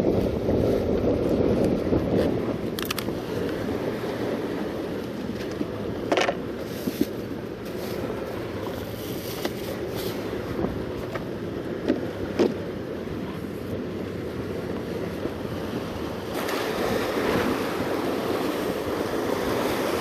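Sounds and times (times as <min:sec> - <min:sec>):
sea washing against rocks: 0:00.0 - 0:20.0
wind rumbling on microphone: 0:00.0 - 0:20.0.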